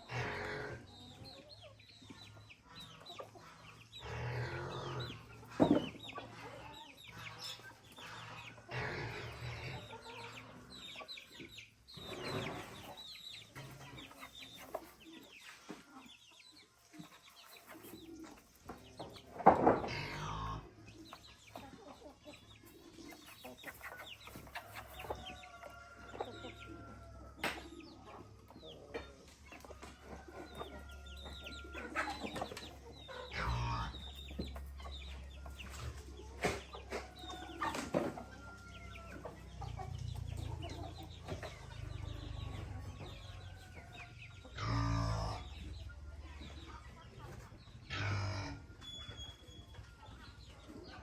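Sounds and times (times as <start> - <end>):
chickens clucking: 0.0 - 51.0.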